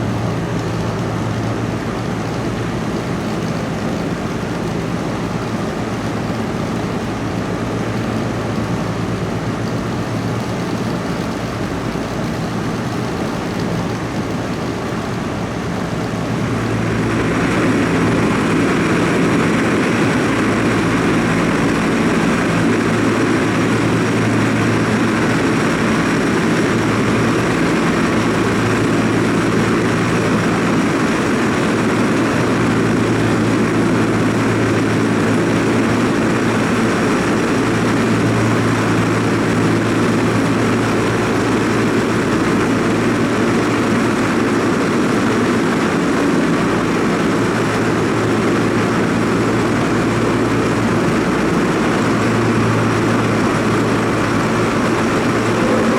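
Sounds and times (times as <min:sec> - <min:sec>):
low hum: 0:00.0 - 0:43.7, 0:46.6 - 0:55.9
tram mechanical drone: 0:00.0 - 0:55.9.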